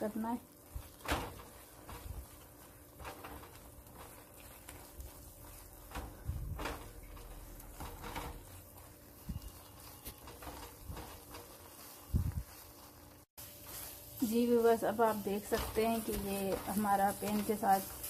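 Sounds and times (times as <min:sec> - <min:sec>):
spatula scraping paste in pan: 0:00.6 - 0:18.0.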